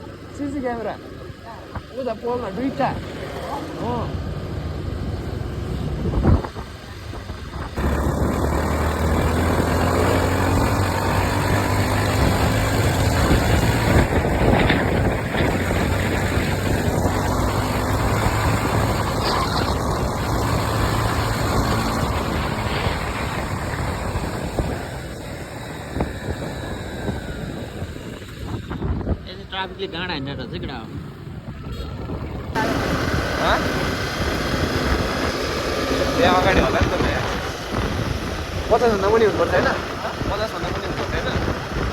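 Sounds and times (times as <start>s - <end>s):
motorcycle engine humming: 0.0s - 41.9s
road noise: 0.0s - 41.9s
wind noise: 3.9s - 41.9s.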